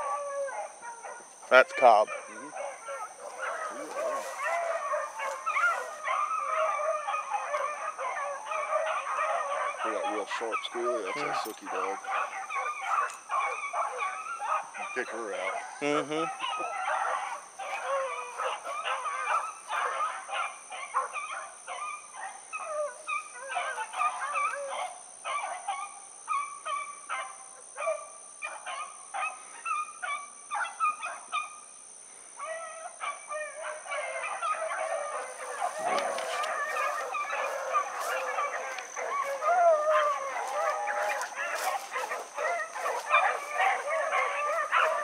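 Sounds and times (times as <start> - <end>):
hounds baying in chorus: 0.0 - 45.0.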